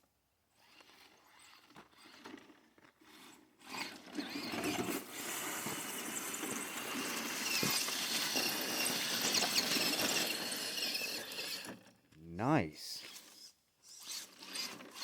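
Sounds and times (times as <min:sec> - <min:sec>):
electric toy truck motor: 0:00.6 - 0:11.9, 0:13.0 - 0:15.0.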